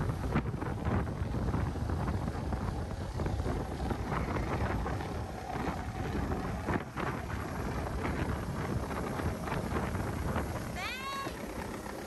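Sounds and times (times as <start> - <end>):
low rumble: 0.0 - 12.0
wind buffeting microphone: 0.0 - 12.0.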